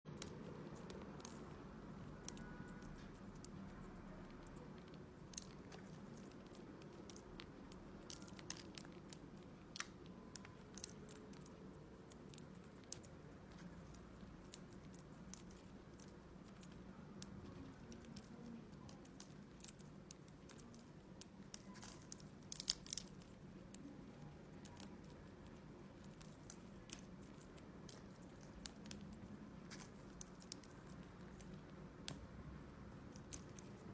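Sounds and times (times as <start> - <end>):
bird beak clicks and crunches: 0.1 - 32.2, 32.9 - 33.9
low steady hum: 0.1 - 33.9.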